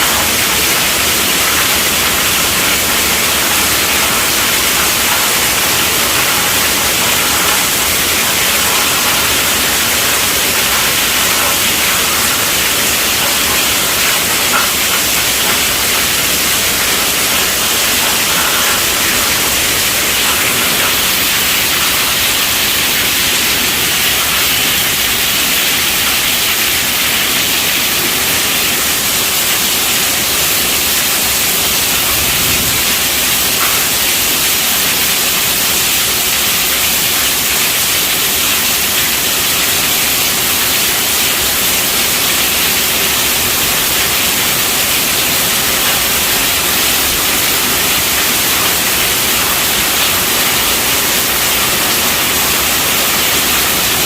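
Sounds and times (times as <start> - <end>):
heavy rain drumming on tent: 0.0 - 54.0.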